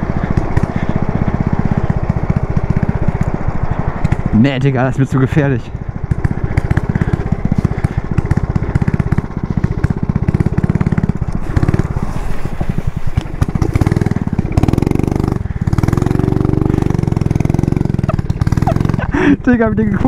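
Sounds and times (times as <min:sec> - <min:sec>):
go-kart engine running: 0:00.0 - 0:20.0.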